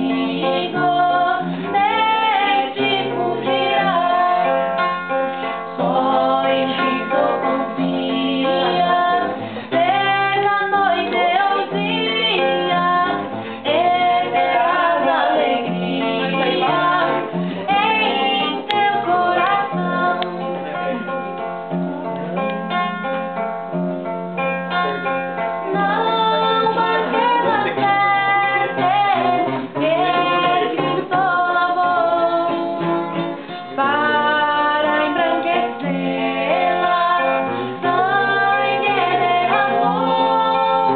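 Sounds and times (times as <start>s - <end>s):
woman singing a hymn: 0.0s - 5.0s, 5.7s - 21.0s, 25.7s - 40.9s
plucked guitar: 0.0s - 40.9s.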